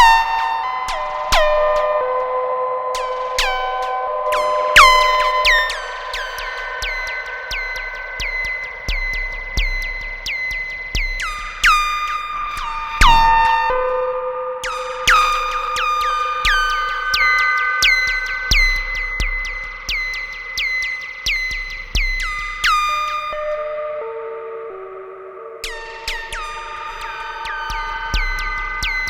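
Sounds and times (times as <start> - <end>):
synthesizer notes with echoes: 0.0 - 29.0.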